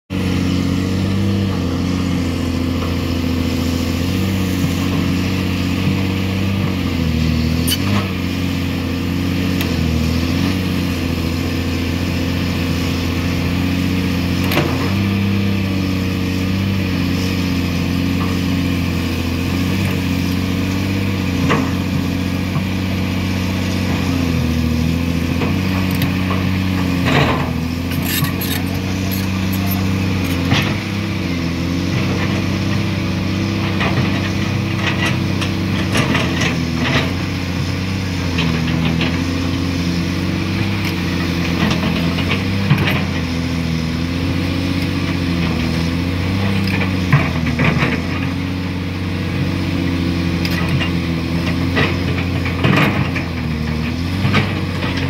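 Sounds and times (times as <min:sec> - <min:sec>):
excavator diesel engine running: 0:00.1 - 0:55.0.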